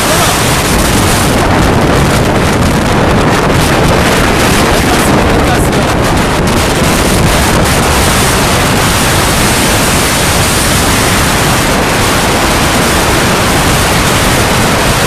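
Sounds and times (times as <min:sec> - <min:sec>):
storm wind and surf rushing: 0:00.0 - 0:15.0
wind blowing on microphone: 0:00.0 - 0:15.0.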